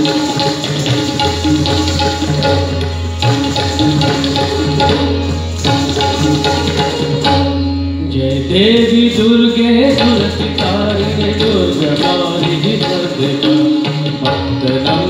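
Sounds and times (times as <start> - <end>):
tabla playing a rhythm: 0.0 - 15.0.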